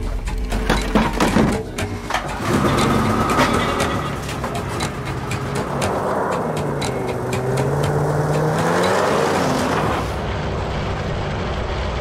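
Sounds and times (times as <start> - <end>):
snowmobile engines running: 0.6 - 12.0.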